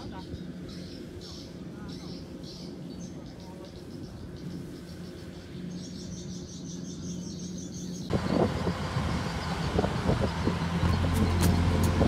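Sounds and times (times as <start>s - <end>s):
distant diesel engines droning: 0.0s - 12.0s.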